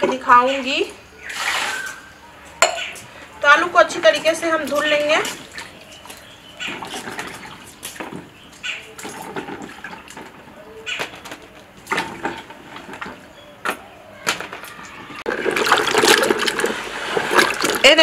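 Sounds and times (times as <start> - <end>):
water sloshing and splashing in bucket: 1.2 - 2.2, 2.8 - 18.0.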